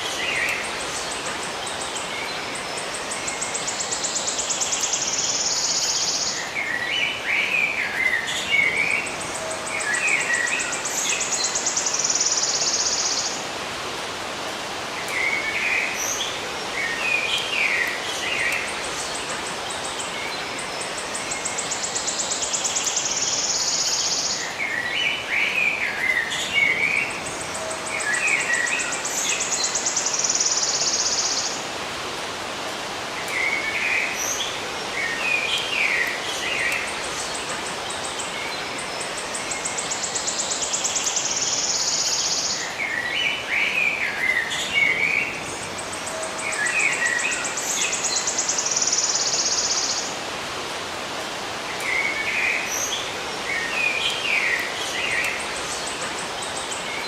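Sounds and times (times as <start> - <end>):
songbirds chirping: 0.0 - 57.0
steady hiss: 0.0 - 57.0.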